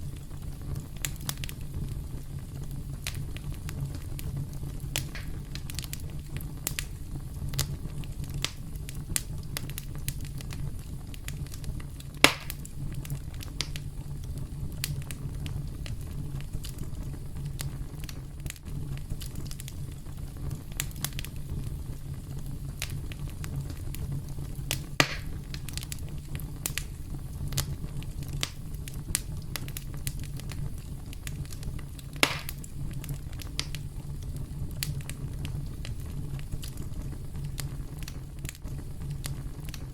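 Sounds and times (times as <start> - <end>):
campfire crackling: 0.0 - 39.9
fire popping: 0.0 - 39.9
low rumble of flames: 0.0 - 39.9.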